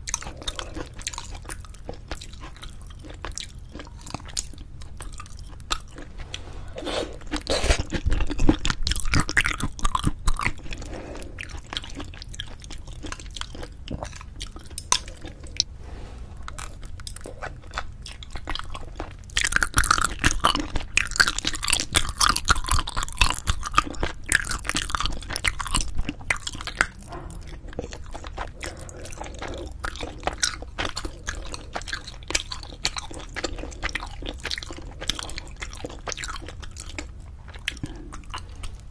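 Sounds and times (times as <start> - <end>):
wet chewing and biting: 0.0 - 6.4, 7.1 - 15.7, 16.5 - 38.9.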